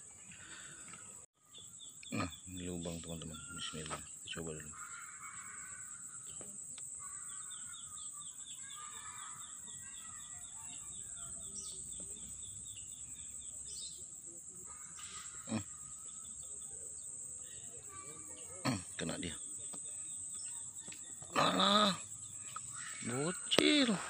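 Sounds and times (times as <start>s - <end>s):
birds calling: 0.0s - 24.0s
insects droning: 0.0s - 24.0s.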